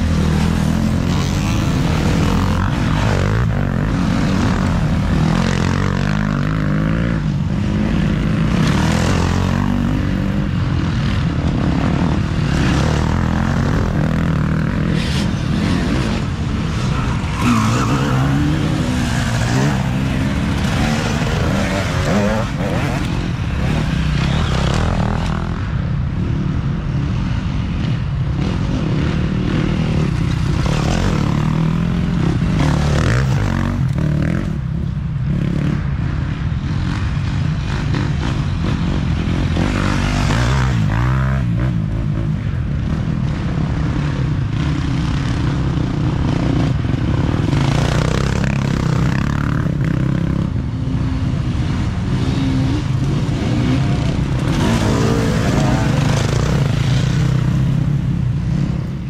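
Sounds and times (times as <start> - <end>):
dirt bike engines revving: 0.0 - 59.0
drone of distant bikes: 0.0 - 59.0.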